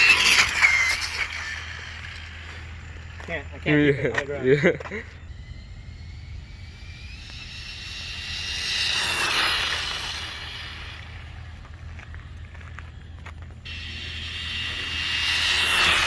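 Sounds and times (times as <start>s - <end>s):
rc car motor whining: 0.0s - 16.0s.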